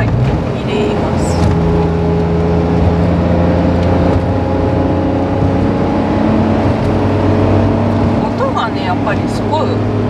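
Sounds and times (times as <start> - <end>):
engine drone inside car cabin: 0.0 - 10.0
road noise: 0.0 - 10.0.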